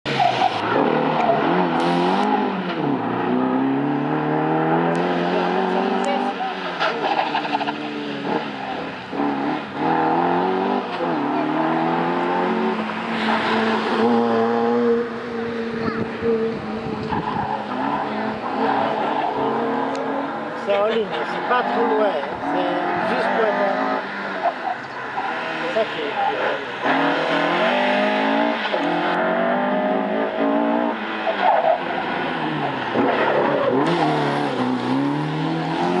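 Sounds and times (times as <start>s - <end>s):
car engine revving: 0.1s - 36.0s.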